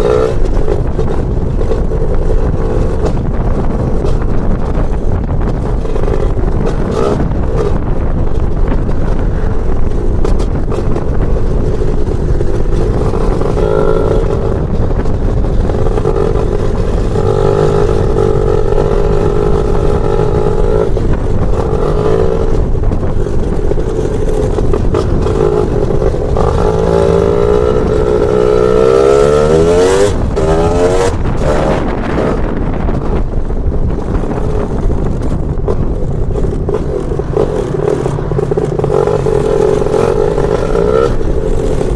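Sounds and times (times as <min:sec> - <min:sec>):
scooter two-stroke engine revving: 0:00.0 - 0:41.9.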